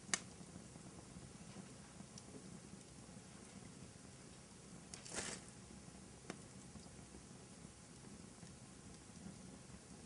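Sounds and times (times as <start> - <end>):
faint fire pops: 0.0 - 10.0
fireplace crackling: 0.0 - 10.0.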